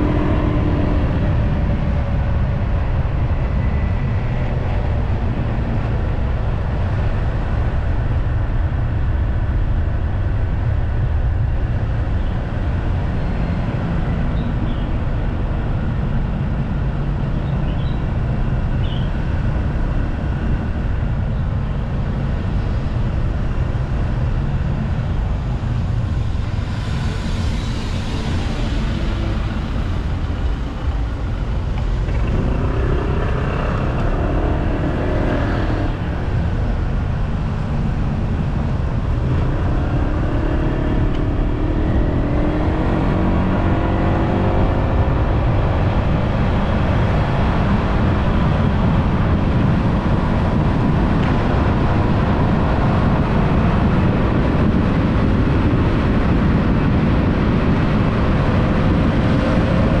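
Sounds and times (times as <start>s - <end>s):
wind rush on microphone: 0.0s - 60.0s.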